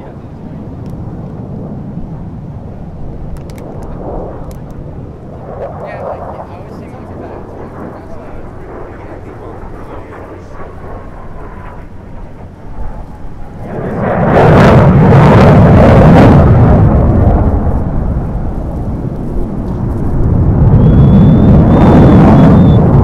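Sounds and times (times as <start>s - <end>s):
fighter jet roar: 0.0s - 23.0s.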